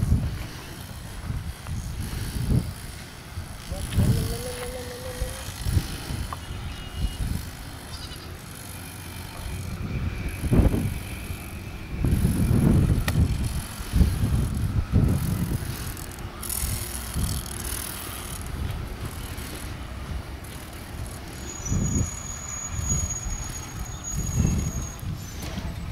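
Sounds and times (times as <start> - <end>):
wind buffeting microphone: 0.0 - 8.1, 9.2 - 25.9.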